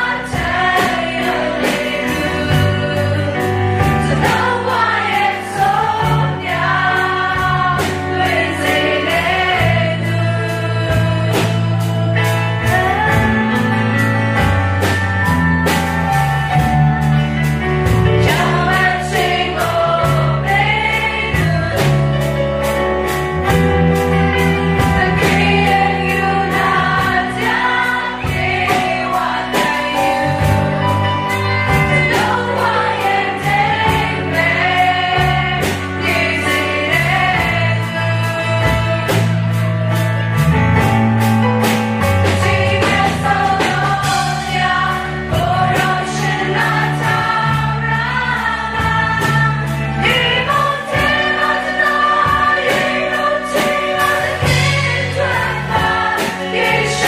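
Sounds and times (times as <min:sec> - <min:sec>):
acoustic guitar: 0:00.0 - 0:57.0
electric guitars: 0:00.0 - 0:57.0
roomful of voices singing: 0:00.0 - 0:57.0.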